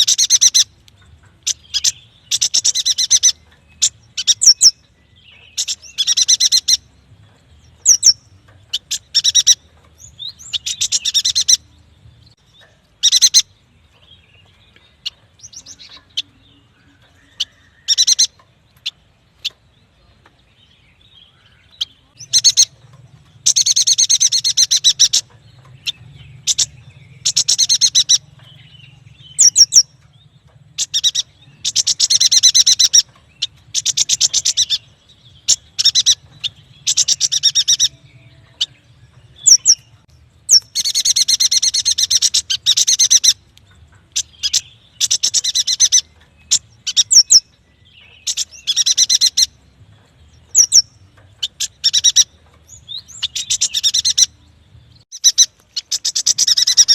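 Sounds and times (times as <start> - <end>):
bird chattering trills: 0.0 - 7.0, 7.6 - 11.7, 12.5 - 13.6, 14.8 - 20.2, 21.0 - 49.6, 50.4 - 54.4, 55.0 - 56.9.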